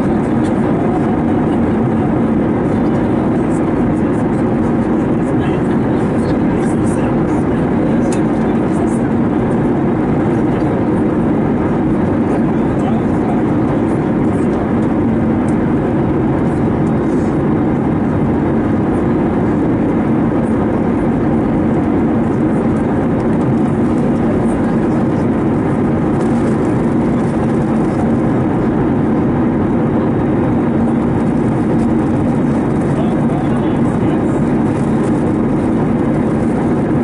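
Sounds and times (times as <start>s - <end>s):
airplane cabin engine rush: 0.0s - 37.0s
constant low hum: 0.0s - 37.0s.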